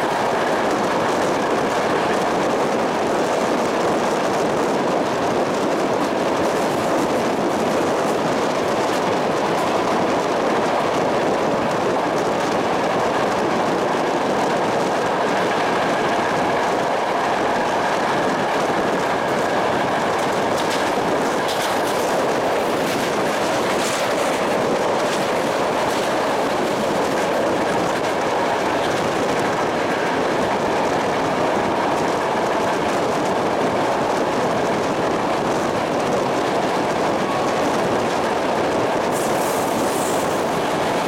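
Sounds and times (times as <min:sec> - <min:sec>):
train wheels rolling on rails: 0:00.0 - 0:41.0
wheels clicking over rail joints: 0:00.0 - 0:41.0.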